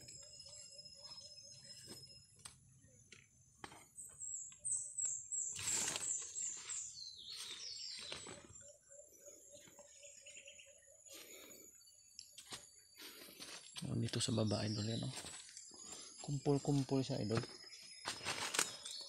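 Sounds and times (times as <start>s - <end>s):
small bird chirping: 0.0s - 19.0s.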